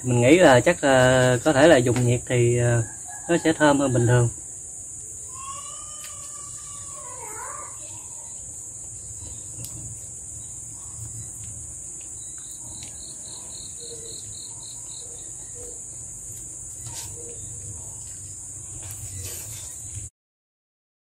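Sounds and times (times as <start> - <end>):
insects trilling: 0.0 - 20.1.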